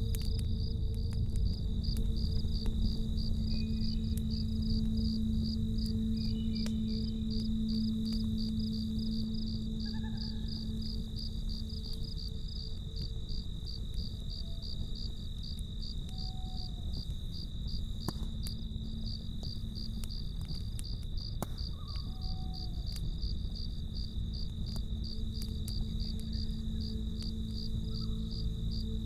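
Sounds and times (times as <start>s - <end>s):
campfire rumble: 0.0s - 29.0s
crickets chirping: 0.0s - 29.0s
fire crackling and popping: 0.0s - 29.0s.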